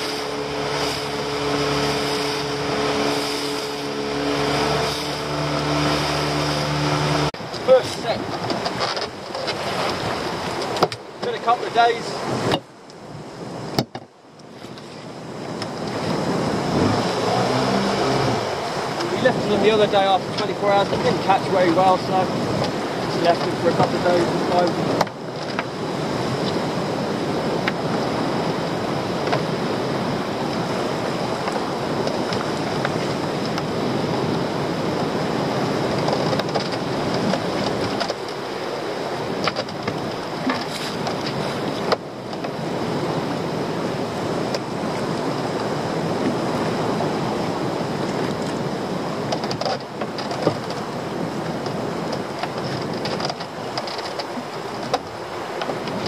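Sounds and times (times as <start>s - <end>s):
water rushing against hull: 0.0s - 56.0s
wind on microphone: 0.0s - 56.0s.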